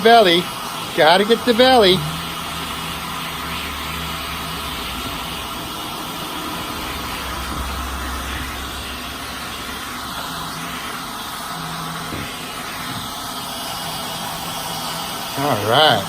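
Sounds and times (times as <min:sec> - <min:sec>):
vacuum cleaner humming: 0:00.0 - 0:16.0.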